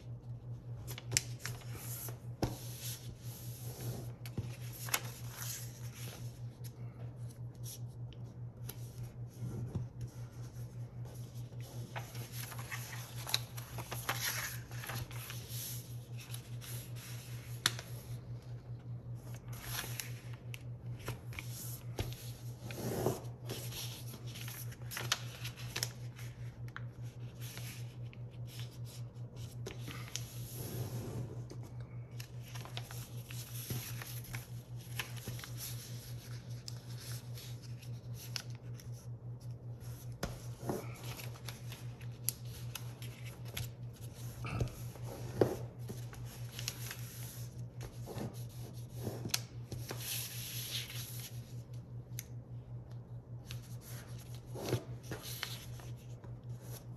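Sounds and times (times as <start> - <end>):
steady low hum: 0.0 - 56.9
paper rustling and crackling: 0.8 - 7.9, 8.6 - 18.2, 19.2 - 30.6, 32.1 - 39.1, 39.8 - 51.6, 53.4 - 56.9.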